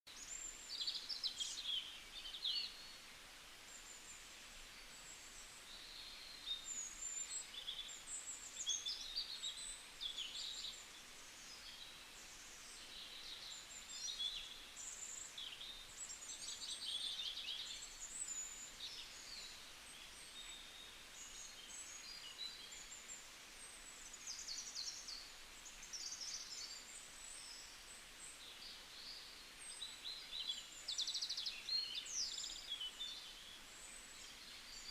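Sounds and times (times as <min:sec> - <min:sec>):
faint steady hiss: 0:00.1 - 0:34.9
small birds chirping: 0:00.1 - 0:34.9.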